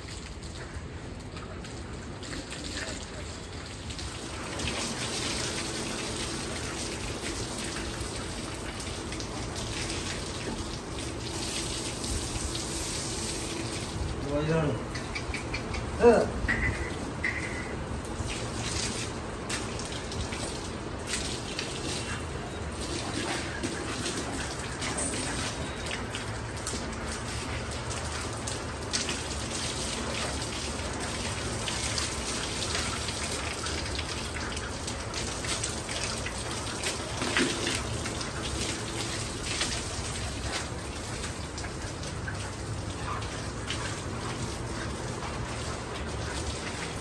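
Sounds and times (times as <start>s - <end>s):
hose water splashing on concrete: 0.0s - 47.0s.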